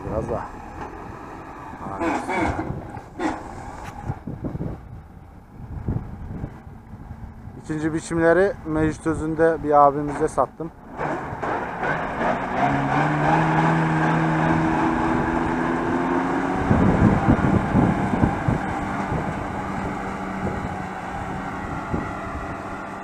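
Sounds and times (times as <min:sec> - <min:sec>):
wind buffeting microphone: 0:00.0 - 0:10.4, 0:13.4 - 0:23.0
tractor diesel engine running: 0:00.0 - 0:13.0, 0:13.8 - 0:23.0.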